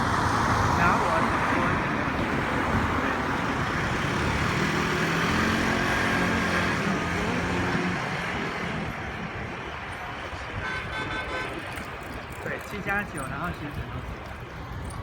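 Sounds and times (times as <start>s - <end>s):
road traffic: 0.0s - 15.0s
vehicle engine hum: 0.0s - 15.0s.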